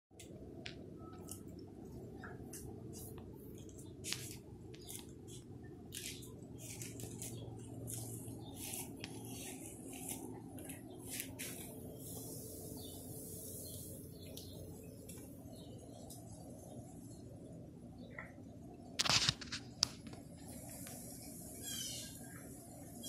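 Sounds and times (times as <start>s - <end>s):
steady low hum: 0.1s - 23.0s.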